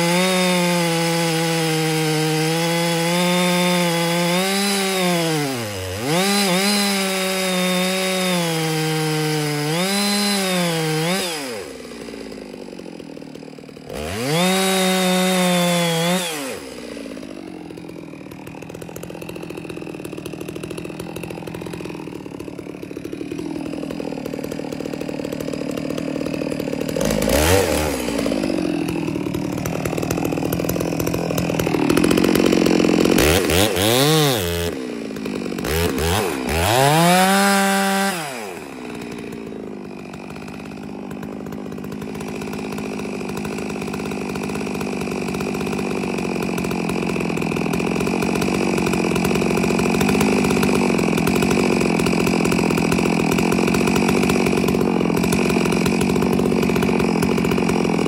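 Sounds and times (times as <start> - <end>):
chainsaw revving and cutting: 0.0 - 58.0.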